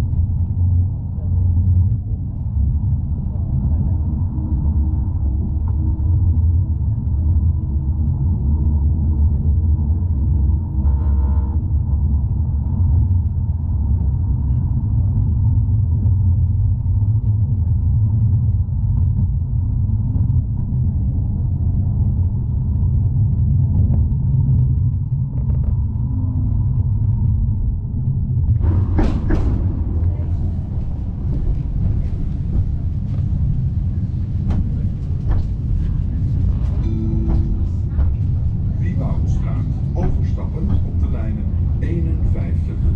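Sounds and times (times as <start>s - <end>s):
tram wheels rumbling on rails: 0.0s - 42.9s.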